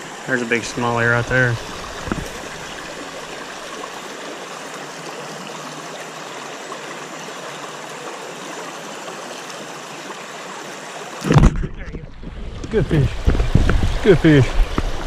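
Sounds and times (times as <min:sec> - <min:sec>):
water running over rocks: 0:00.0 - 0:15.0.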